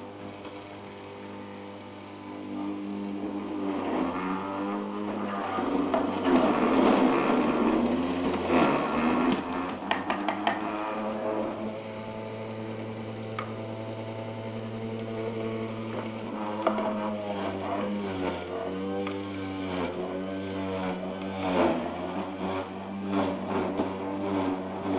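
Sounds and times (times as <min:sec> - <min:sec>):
juicer motor grinding carrots: 0:00.0 - 0:24.9.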